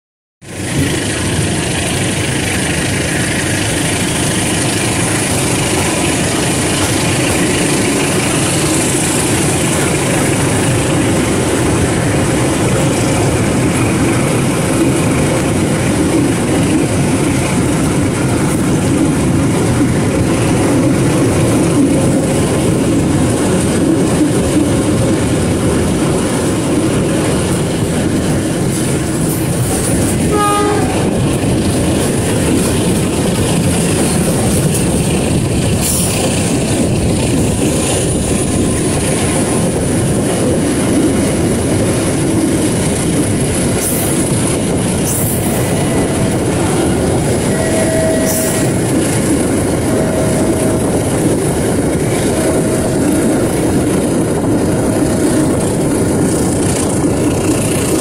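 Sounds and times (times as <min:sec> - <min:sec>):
train rumbling on board: 0:00.4 - 0:58.0.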